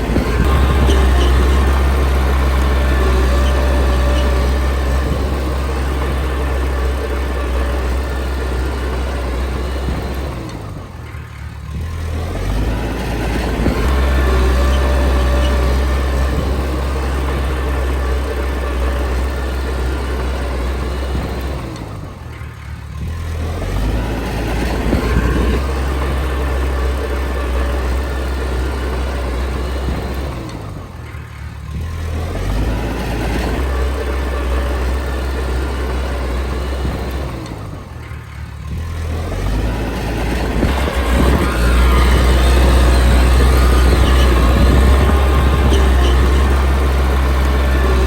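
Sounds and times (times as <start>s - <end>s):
bulldozer diesel engine under load: 0.0s - 48.0s.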